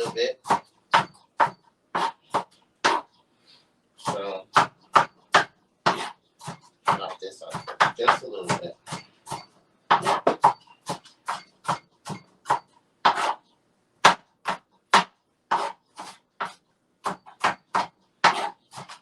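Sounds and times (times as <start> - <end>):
knife chopping on cutting board: 0.0 - 3.1, 4.0 - 13.4, 14.0 - 19.0.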